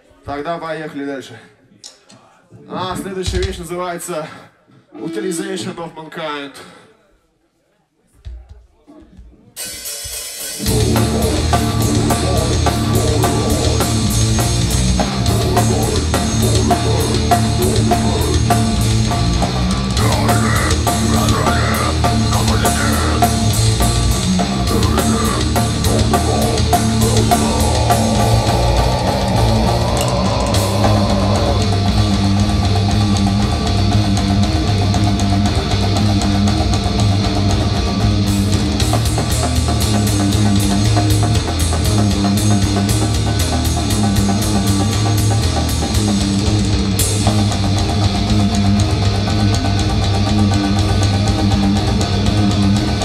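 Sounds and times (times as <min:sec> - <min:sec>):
band playing grindcore: 0:09.6 - 0:53.0.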